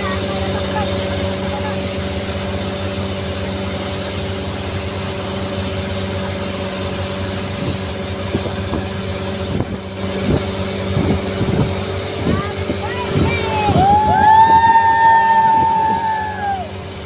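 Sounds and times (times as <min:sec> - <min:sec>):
boat engine droning: 0:00.0 - 0:17.0
broad hiss: 0:00.0 - 0:17.0.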